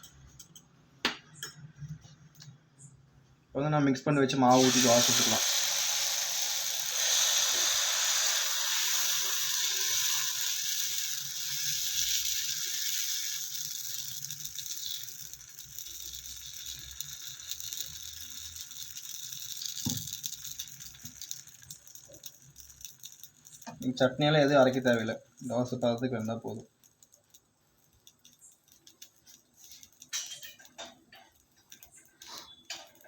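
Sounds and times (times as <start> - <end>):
batter sizzling on a hot griddle: 4.4 - 33.0.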